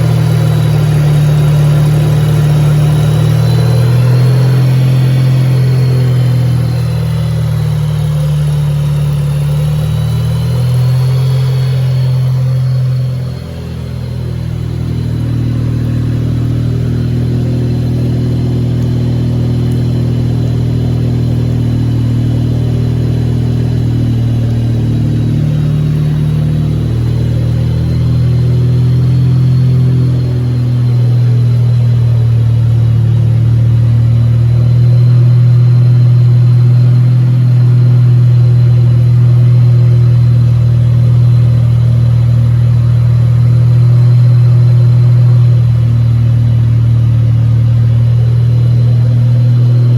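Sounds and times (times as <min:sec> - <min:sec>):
rotary engine humming: 0:00.0 - 0:49.9.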